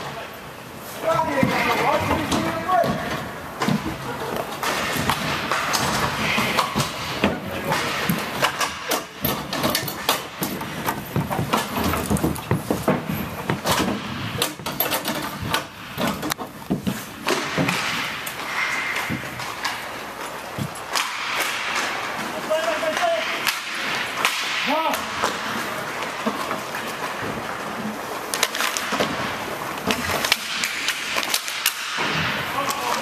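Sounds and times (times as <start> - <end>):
hockey sticks and puck clacking: 0.0 - 33.0.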